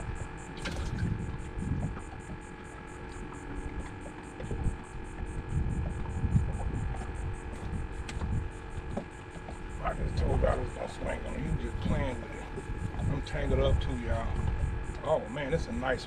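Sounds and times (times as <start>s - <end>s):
electrical hum: 0.0s - 16.0s
low rumbles: 0.0s - 16.0s.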